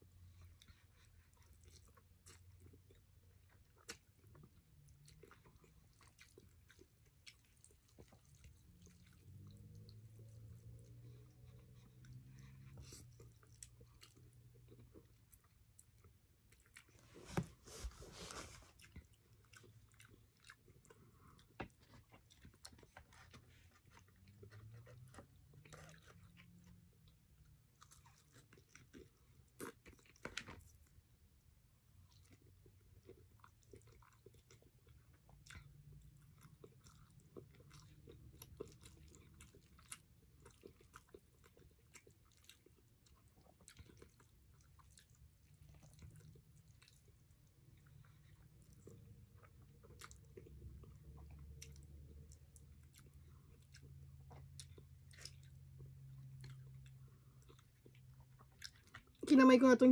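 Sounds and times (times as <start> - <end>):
person chewing: 0.2 - 31.0, 31.9 - 59.2.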